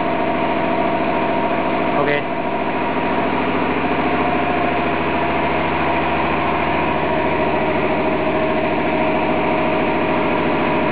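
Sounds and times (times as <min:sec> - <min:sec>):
machine hum: 0:00.0 - 0:10.9.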